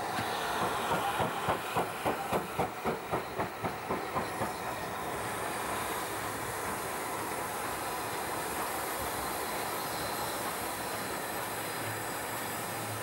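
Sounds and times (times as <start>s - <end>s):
steady steam hiss: 0.0s - 13.0s
steam locomotive chuffing: 0.0s - 13.0s.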